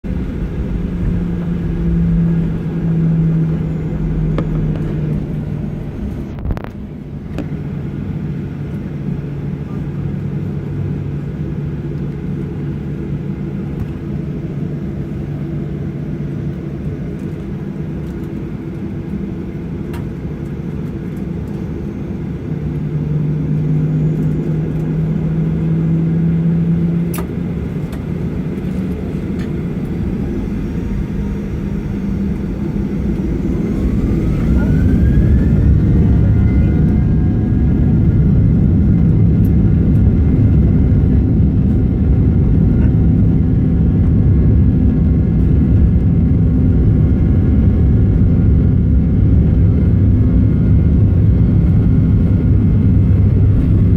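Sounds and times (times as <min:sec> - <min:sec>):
jet engines droning in cabin: 0:00.0 - 0:53.9.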